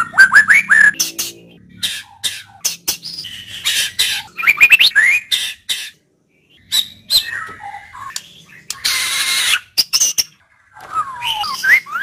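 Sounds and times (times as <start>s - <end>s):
bird calling and singing: 0.0s - 12.0s.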